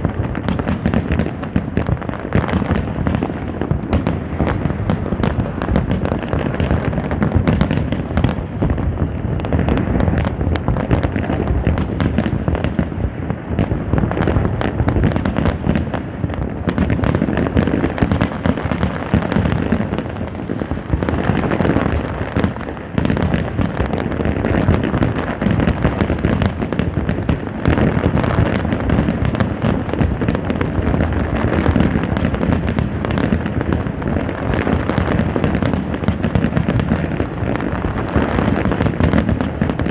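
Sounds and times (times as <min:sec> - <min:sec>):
fireworks cracks and bangs: 0:00.0 - 0:39.9.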